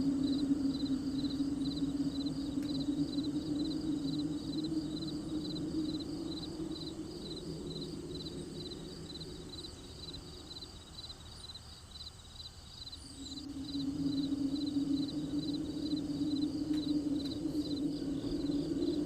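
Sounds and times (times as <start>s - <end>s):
low steady hum: 0.0s - 11.6s, 12.9s - 19.0s
crickets chirping: 0.0s - 19.0s.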